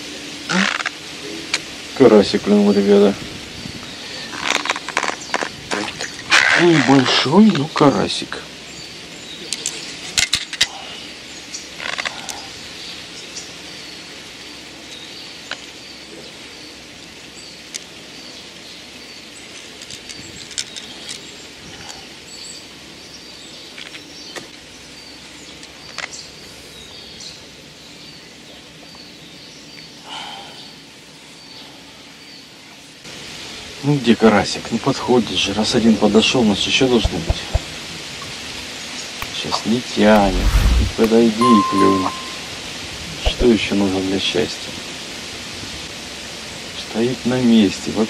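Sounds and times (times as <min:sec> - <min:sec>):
steady outdoor hiss: 0:00.0 - 0:48.0.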